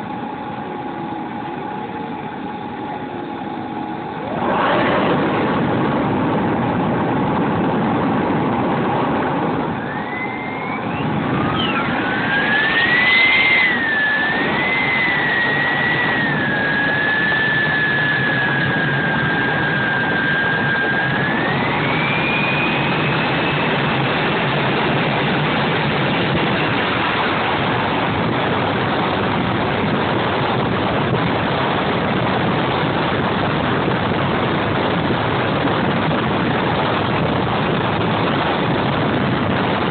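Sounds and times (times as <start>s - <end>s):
steady rushing roar: 0.0s - 39.9s
turbine engine whine: 0.0s - 39.9s.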